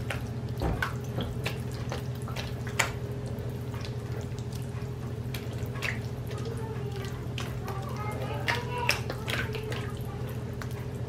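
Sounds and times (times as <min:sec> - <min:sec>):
spatula stirring wet mixture: 0:00.0 - 0:11.0
steady low hum: 0:00.0 - 0:11.0.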